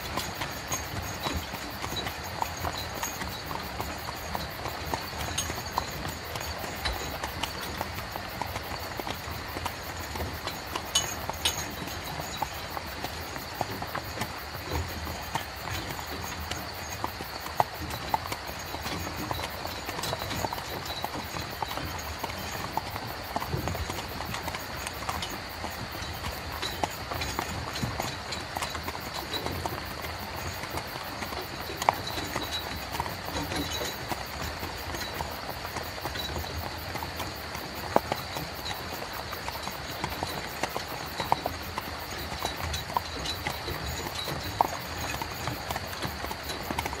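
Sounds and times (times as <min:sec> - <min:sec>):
carriage wheels rumbling: 0:00.0 - 0:47.0
horse hooves clip-clopping: 0:00.0 - 0:47.0.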